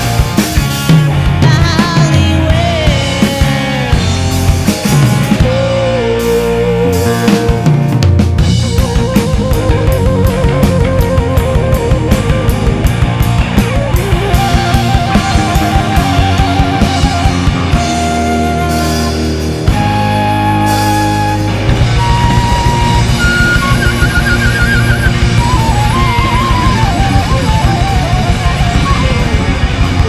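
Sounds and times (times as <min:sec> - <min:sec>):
drum kit beat: 0:00.0 - 0:30.0
guitar: 0:00.0 - 0:30.0
lead line with vibrato: 0:00.0 - 0:30.0.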